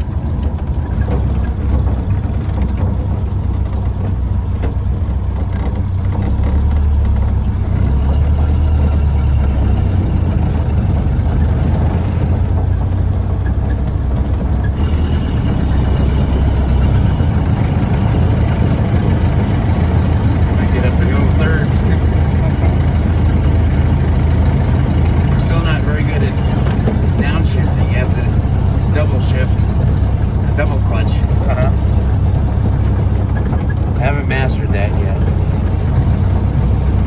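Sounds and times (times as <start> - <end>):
pickup truck engine driving: 0.0 - 37.0.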